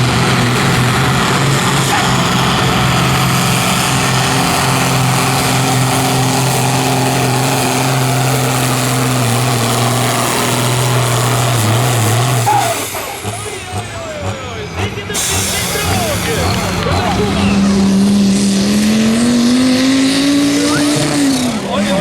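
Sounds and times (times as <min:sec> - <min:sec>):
tractor engine running loud: 0:00.0 - 0:22.0.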